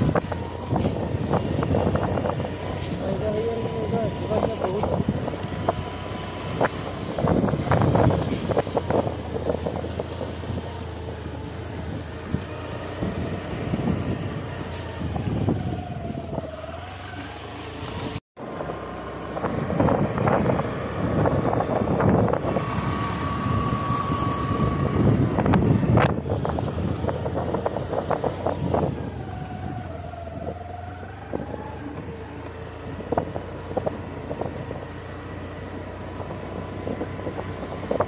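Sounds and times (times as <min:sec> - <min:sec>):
wind buffeting microphone: 0:00.0 - 0:17.0, 0:17.9 - 0:38.0.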